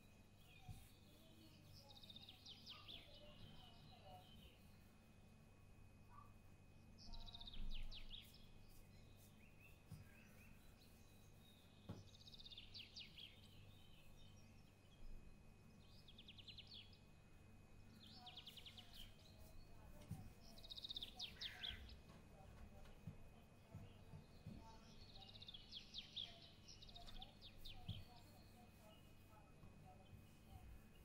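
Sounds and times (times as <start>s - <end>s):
bird song trills: 0.0s - 5.0s, 6.1s - 17.2s, 17.8s - 22.2s, 22.8s - 31.0s
low steady hum: 0.0s - 31.0s.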